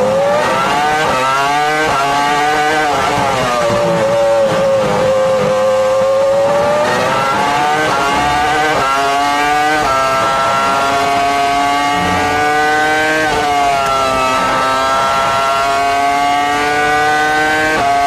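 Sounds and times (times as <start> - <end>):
racing car engine at high revs: 0.0 - 18.0.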